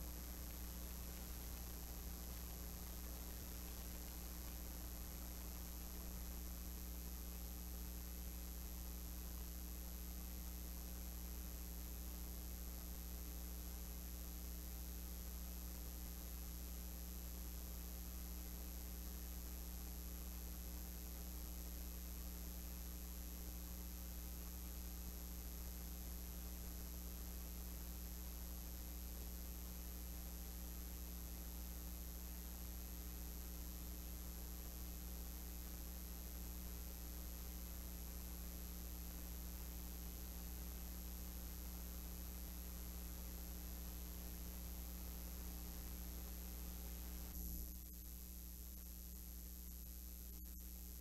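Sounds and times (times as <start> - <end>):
constant hiss: 0.0 - 51.0
electrical mains hum: 0.0 - 51.0
faint high-pitched whine: 0.0 - 51.0.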